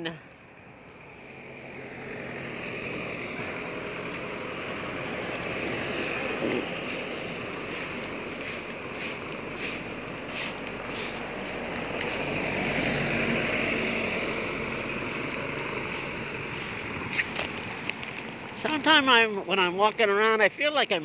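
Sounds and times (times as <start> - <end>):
motor vehicle passing by: 0.0 - 19.4
passing traffic rush: 0.0 - 21.0.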